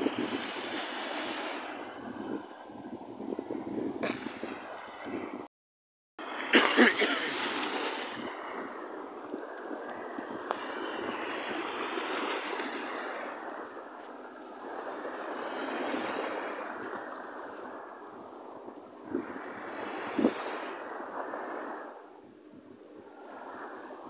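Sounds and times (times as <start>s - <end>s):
surf washing onto beach: 0.0s - 5.4s, 6.2s - 24.0s.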